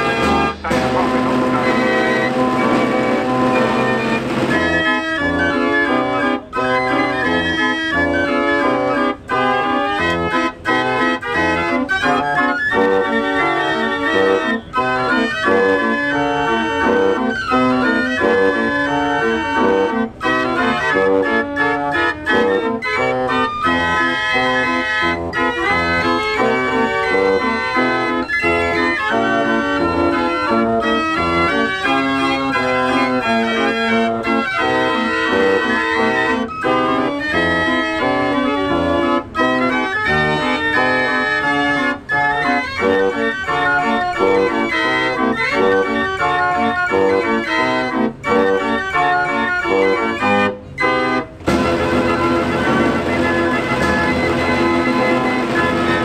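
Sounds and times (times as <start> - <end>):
fair organ playing a tune: 0.0 - 56.0.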